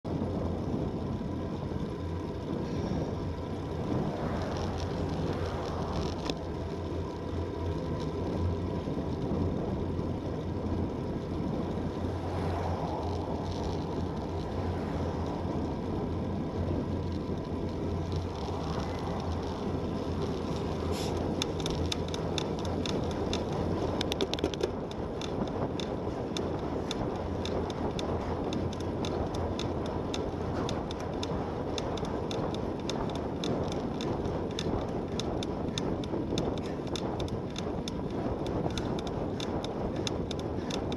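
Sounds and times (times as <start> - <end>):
bicycle tyre noise on asphalt: 0.0 - 40.9
wind buffeting microphone: 0.0 - 40.9
fast light ticks: 0.3 - 40.9.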